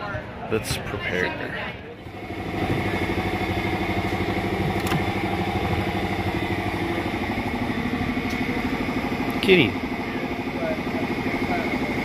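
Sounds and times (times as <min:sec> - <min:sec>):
engine idling: 0:02.0 - 0:12.0.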